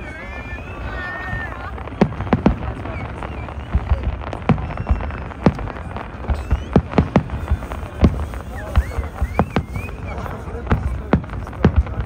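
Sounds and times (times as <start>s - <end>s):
firecracker bangs: 0.0s - 12.0s
rumble of distant explosions: 0.0s - 12.0s.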